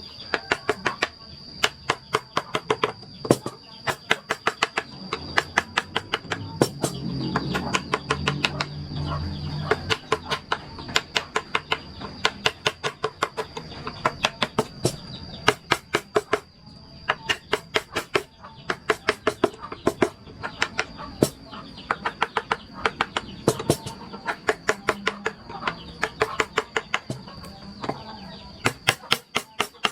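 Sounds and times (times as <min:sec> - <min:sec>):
mallet tapping chisel into wood: 0:00.3 - 0:08.8, 0:09.7 - 0:16.5, 0:17.1 - 0:28.0, 0:28.6 - 0:29.9.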